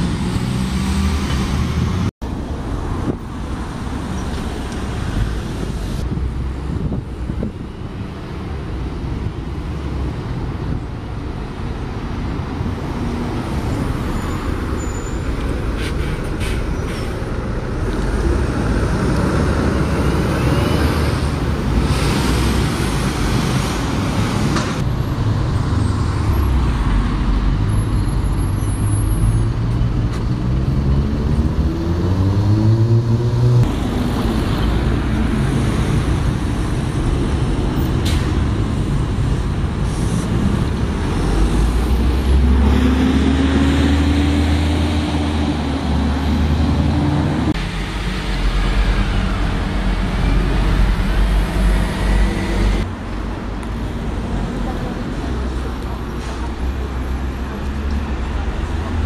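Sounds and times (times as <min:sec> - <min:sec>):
buses and cars passing: 0:00.0 - 0:59.0.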